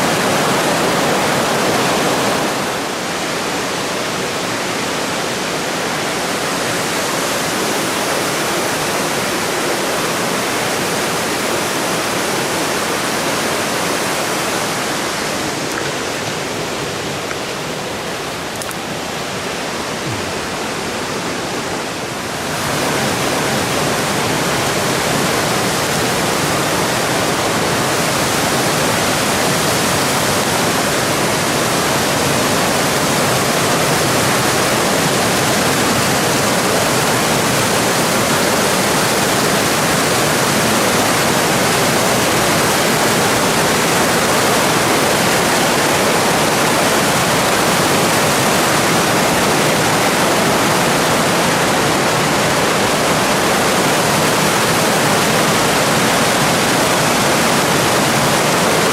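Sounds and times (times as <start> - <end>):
stream water running over rocks: 0.0 - 58.9.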